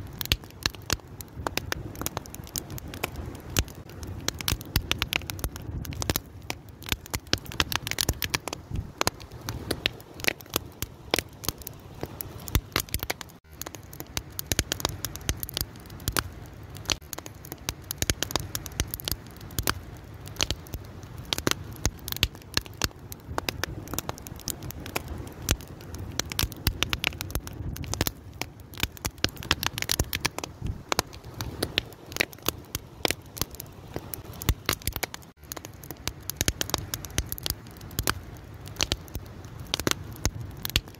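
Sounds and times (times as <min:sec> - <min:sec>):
fire crackling and popping: 0:00.0 - 0:40.9
low rumble of burning: 0:00.0 - 0:40.9.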